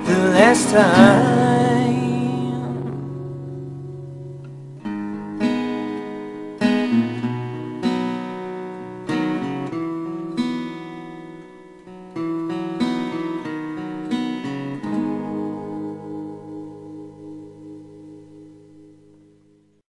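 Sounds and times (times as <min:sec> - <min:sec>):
acoustic guitar chords: 0:00.0 - 0:19.8.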